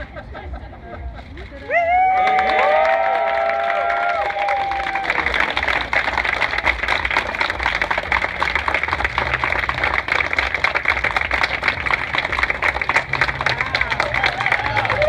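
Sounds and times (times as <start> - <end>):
crowd applauding: 1.7 - 15.0.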